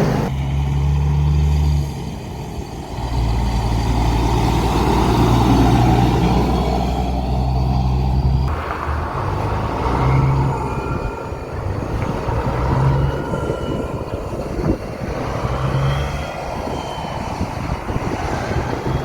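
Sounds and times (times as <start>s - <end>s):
road and wind noise: 0.0s - 19.0s
truck engine drone: 0.0s - 19.0s.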